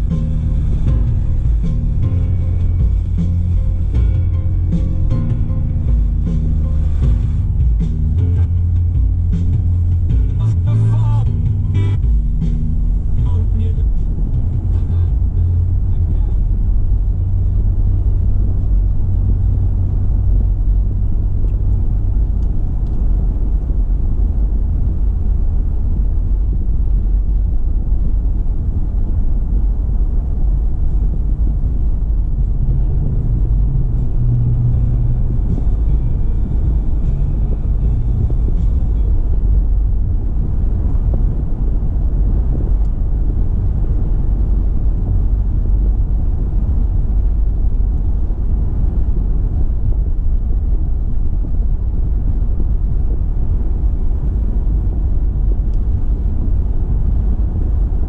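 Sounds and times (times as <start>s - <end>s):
car road and engine rumble: 0.0s - 58.0s
low hum: 0.0s - 58.0s.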